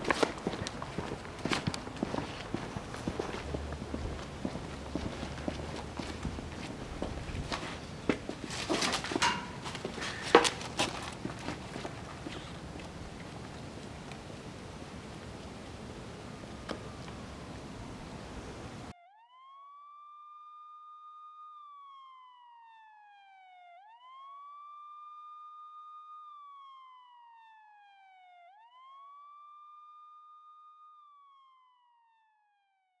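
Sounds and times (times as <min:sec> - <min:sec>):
emergency siren wailing: 0:00.0 - 0:32.8.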